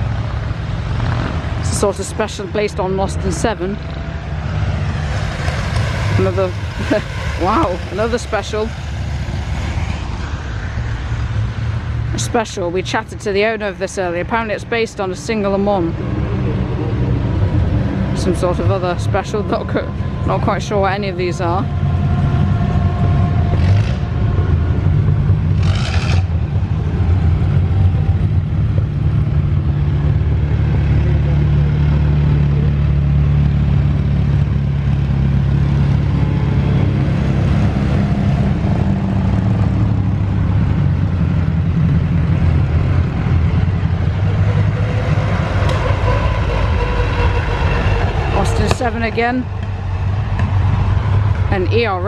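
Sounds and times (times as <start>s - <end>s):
racing car engines at low revs: 0.0s - 52.0s.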